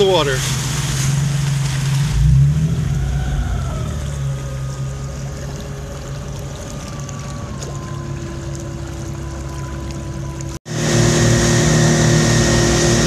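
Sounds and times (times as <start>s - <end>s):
water rushing against hull: 0.0s - 13.0s
engine drone with sliding whine: 1.0s - 13.0s.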